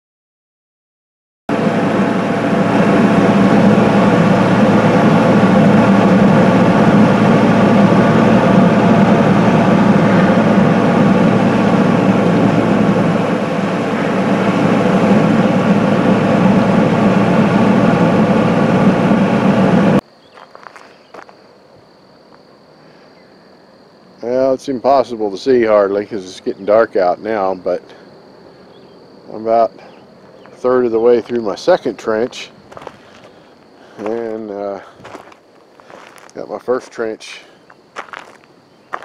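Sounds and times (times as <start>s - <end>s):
diesel engine idling: 1.5s - 20.0s, 24.2s - 39.0s
high insect trill: 1.9s - 39.0s.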